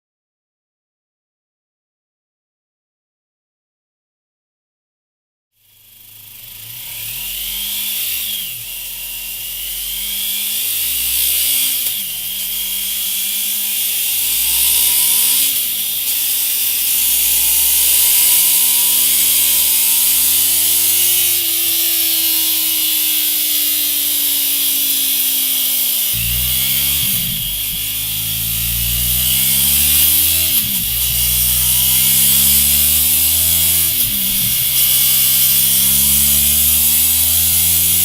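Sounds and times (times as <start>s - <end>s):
motorcycle engine accelerating: 5.7s - 38.0s.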